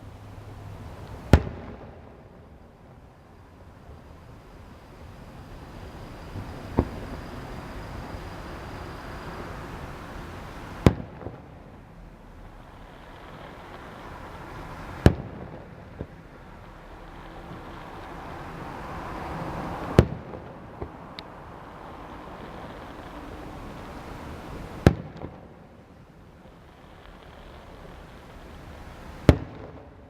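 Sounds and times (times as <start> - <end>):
steady background hiss: 0.0 - 30.0
fireworks bursting: 0.7 - 30.0.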